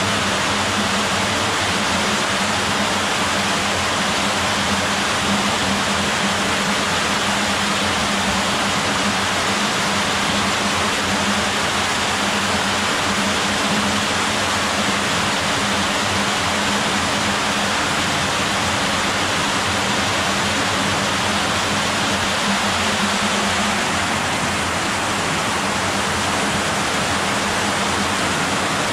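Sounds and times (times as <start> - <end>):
water rushing down a channel: 0.0 - 28.9.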